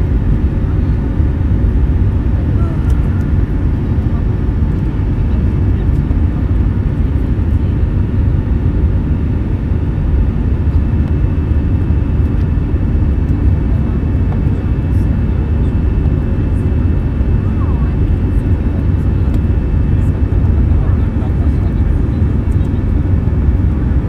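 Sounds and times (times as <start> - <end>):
airplane cabin engine roar: 0.0 - 24.0.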